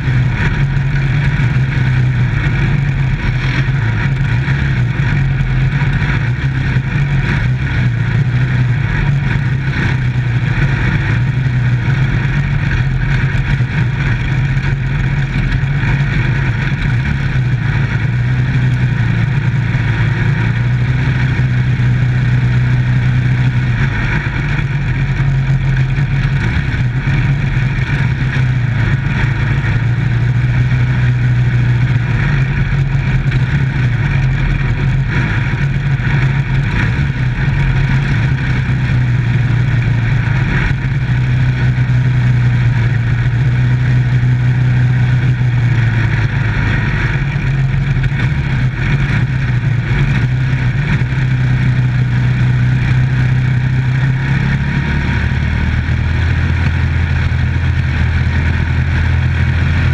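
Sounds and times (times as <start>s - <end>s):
race car engine under load: 0.0s - 59.9s
road and wind noise: 0.0s - 59.9s.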